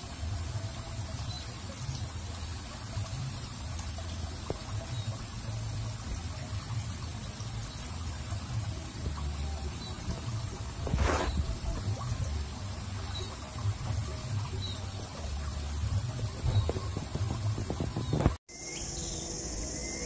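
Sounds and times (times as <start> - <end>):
water trickling in drainage channel: 0.0 - 18.4.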